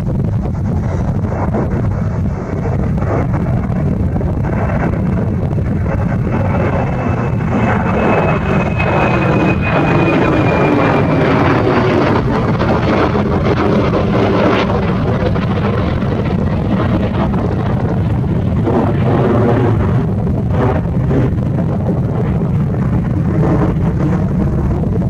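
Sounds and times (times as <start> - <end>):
distant jet engines: 0.0 - 25.0
wind buffeting microphone: 0.0 - 25.0.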